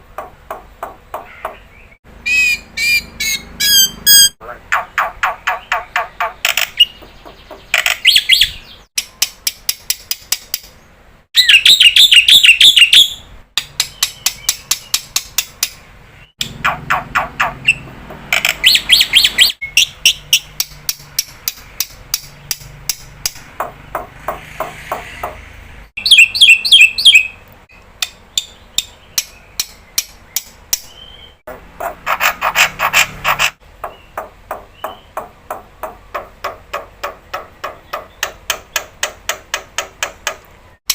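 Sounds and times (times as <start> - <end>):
starling calling: 0.8 - 8.9, 10.5 - 27.4, 28.2 - 38.9.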